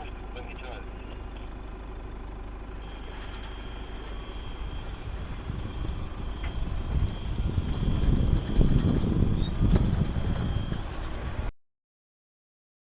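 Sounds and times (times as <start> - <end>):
off-road vehicle driving: 0.0 - 11.5.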